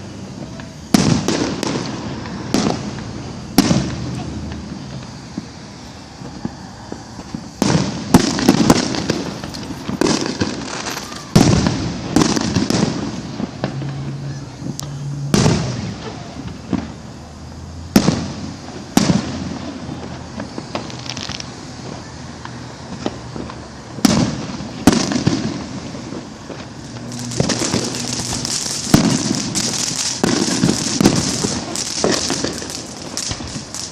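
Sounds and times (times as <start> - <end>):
fireworks bangs: 0.0 - 33.9
fireworks crackling: 0.0 - 33.9.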